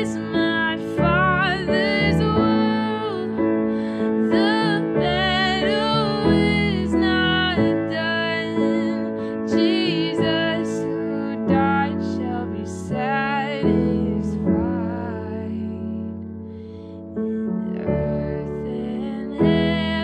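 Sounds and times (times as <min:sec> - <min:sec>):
woman singing worship song: 0:00.0 - 0:16.3, 0:17.2 - 0:20.0
sustained piano chords: 0:00.0 - 0:20.0.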